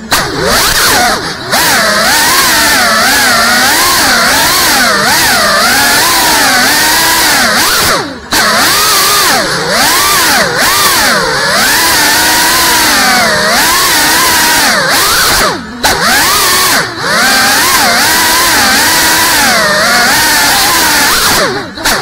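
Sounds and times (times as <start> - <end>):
drone motors and propellers whining: 0.0 - 22.0.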